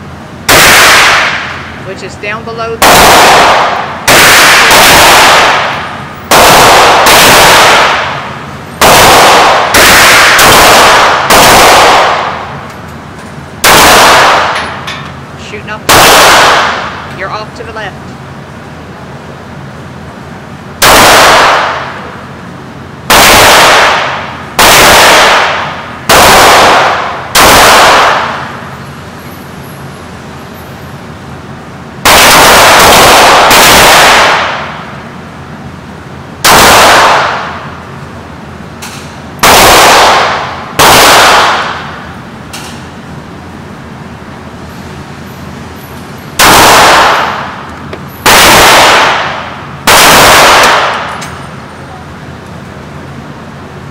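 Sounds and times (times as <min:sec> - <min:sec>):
pistol shots with ringing echo: 0:00.4 - 0:53.8.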